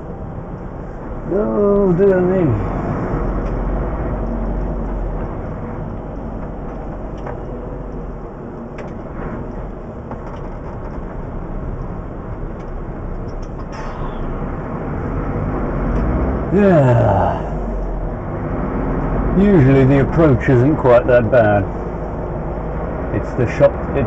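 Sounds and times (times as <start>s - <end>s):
diesel lorry engine: 0.0s - 24.0s
road noise: 0.0s - 24.0s.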